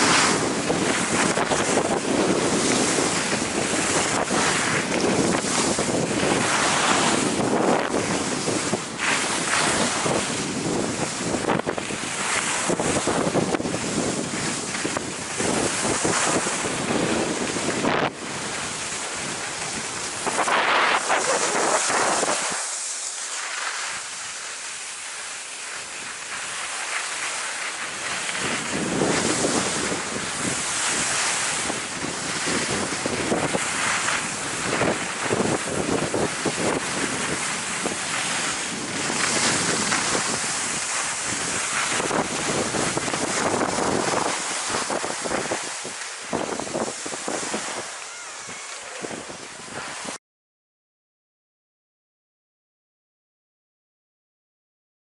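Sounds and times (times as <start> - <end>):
wind rushing over microphone: 0.0 - 23.0, 27.7 - 50.2
skis scraping packed snow: 0.0 - 50.2.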